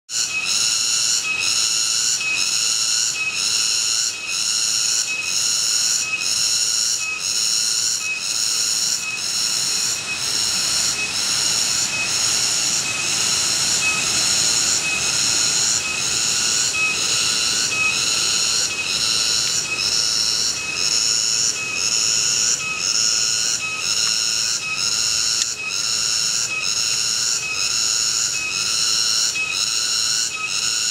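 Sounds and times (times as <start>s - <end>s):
cicadas singing: 0.1s - 30.9s.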